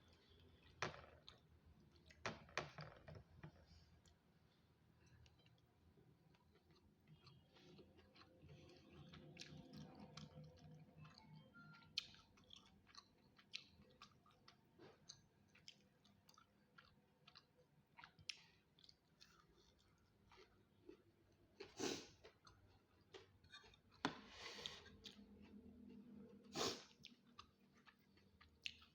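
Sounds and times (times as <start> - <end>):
chewing food: 4.0 - 28.9.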